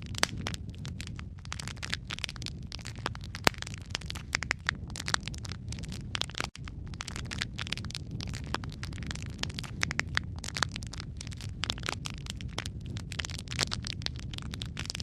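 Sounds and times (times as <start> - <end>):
low rumble of burning logs: 0.0 - 15.0
sharp pops and snaps: 0.0 - 15.0
wood fire crackling: 0.0 - 15.0.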